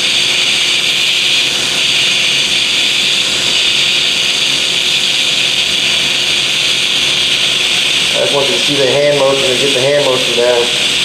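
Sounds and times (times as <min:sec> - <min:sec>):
welding arc hissing: 0:00.0 - 0:11.0.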